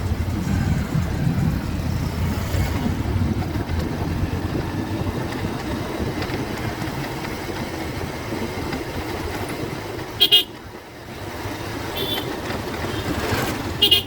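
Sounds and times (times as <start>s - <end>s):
wind rumble on microphone: 0.0s - 11.6s
motorcycle engine running: 0.0s - 14.0s.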